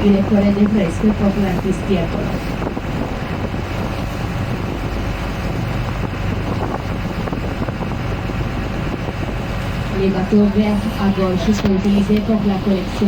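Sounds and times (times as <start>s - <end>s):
boat engine humming: 0.0s - 13.0s
wind on microphone: 0.0s - 13.0s.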